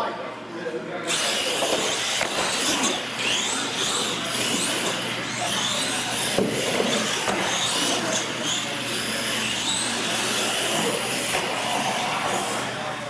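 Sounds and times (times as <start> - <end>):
electric motors whining: 1.1 - 13.0.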